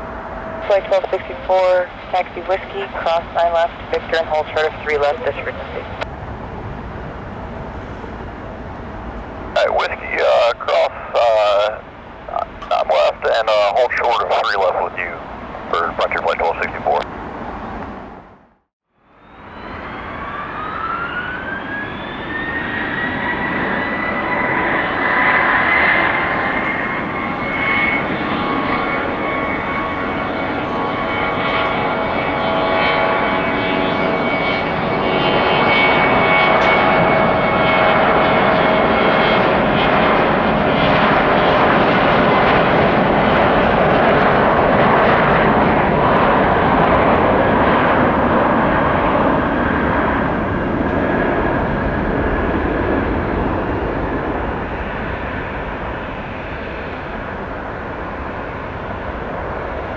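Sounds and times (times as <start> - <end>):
jet engines whining: 0.0 - 59.9.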